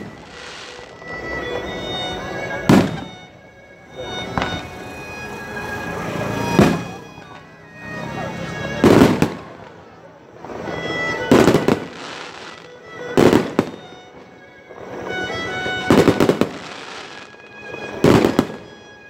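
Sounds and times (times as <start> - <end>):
firework crackling: 0.0 - 3.3, 4.0 - 7.4, 8.0 - 18.9
music: 0.0 - 19.0.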